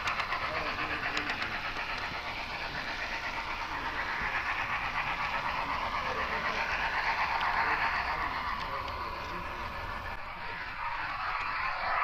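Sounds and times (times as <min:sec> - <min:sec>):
model train whirring: 0:00.0 - 0:12.0.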